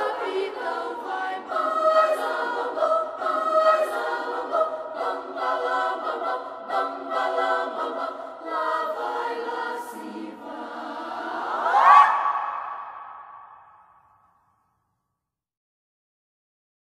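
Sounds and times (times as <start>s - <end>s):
children's choir singing: 0.0s - 13.6s.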